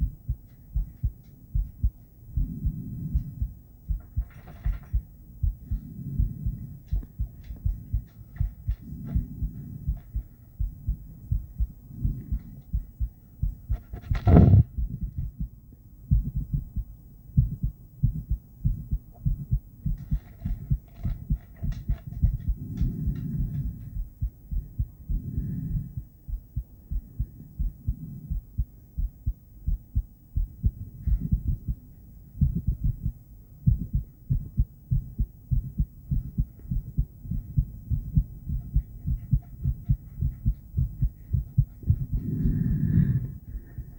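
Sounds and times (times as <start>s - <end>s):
ultrasonic heartbeat pulses: 0.0s - 43.9s.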